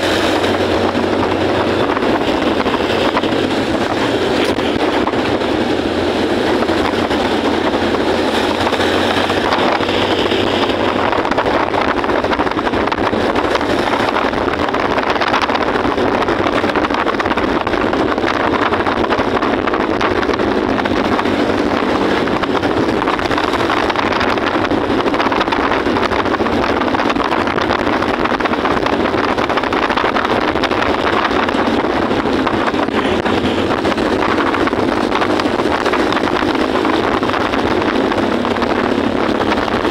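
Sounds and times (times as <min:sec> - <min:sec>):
motorcycle engine: 0:00.0 - 0:39.9
wind buffeting microphone: 0:00.0 - 0:39.9.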